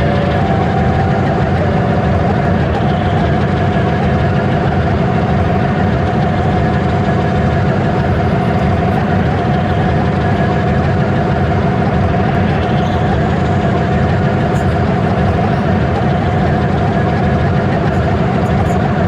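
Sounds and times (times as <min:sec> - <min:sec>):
constant hum: 0:00.0 - 0:19.0
train rumbling: 0:00.0 - 0:19.0.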